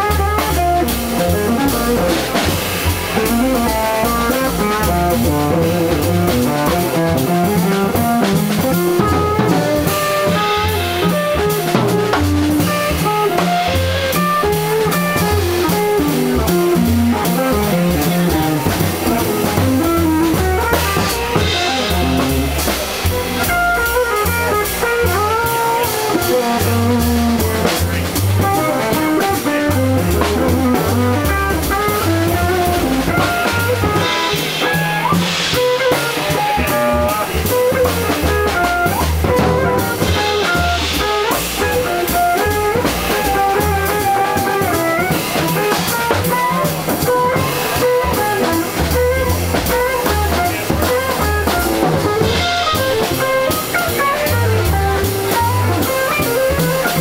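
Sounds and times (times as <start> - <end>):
drum kit with cymbals: 0.0 - 57.0
electric guitar melody: 0.0 - 57.0
walking bass: 0.0 - 57.0.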